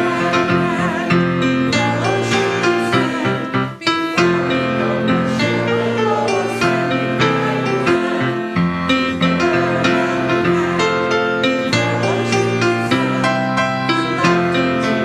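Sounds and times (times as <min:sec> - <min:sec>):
congregation singing: 0:00.0 - 0:15.0
piano accompaniment: 0:00.0 - 0:15.0.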